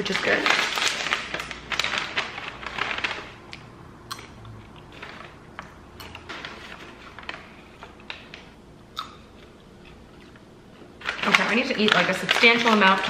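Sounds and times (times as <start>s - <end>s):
chewing crisp popcorn: 0.5s - 12.7s.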